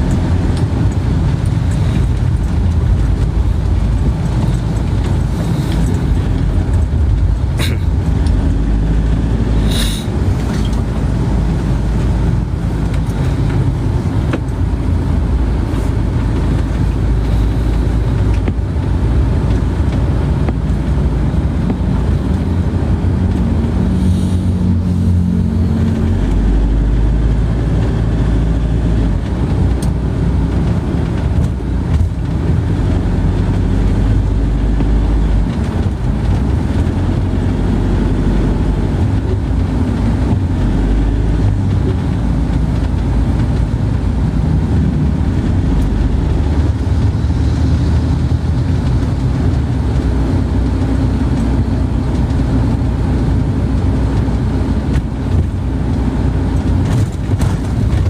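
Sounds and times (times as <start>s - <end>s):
vehicle rumbling: 0.0s - 58.0s.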